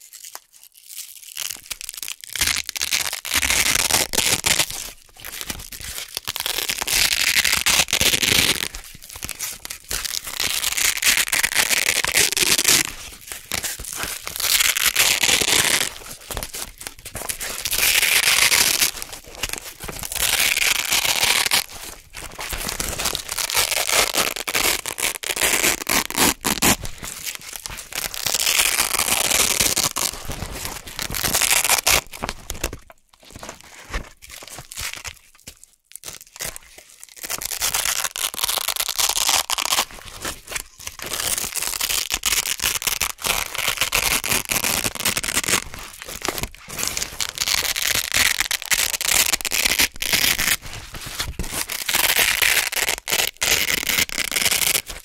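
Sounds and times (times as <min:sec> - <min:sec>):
velcro ripping apart: 0:00.0 - 0:32.8, 0:36.0 - 0:39.9, 0:40.5 - 0:55.0.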